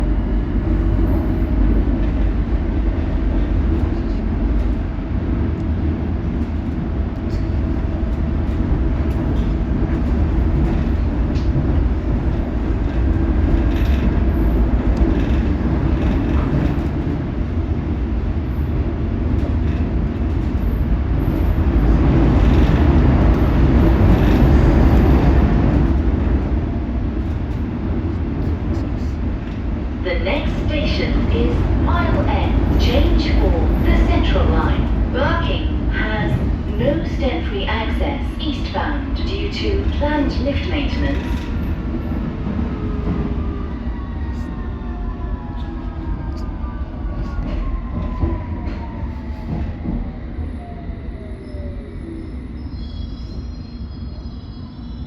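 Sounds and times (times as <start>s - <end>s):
subway train rumbling in tunnel: 0.0s - 55.0s.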